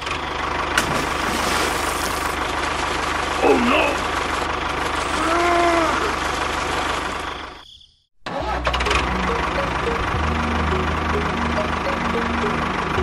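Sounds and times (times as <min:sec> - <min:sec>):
engine idling: 0:00.0 - 0:07.6, 0:08.3 - 0:13.0
tractor engine idling: 0:00.0 - 0:07.6, 0:08.3 - 0:13.0.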